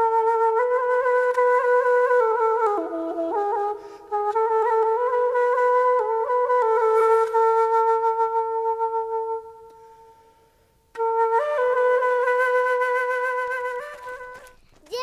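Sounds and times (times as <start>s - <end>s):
solo flute: 0.0s - 14.6s.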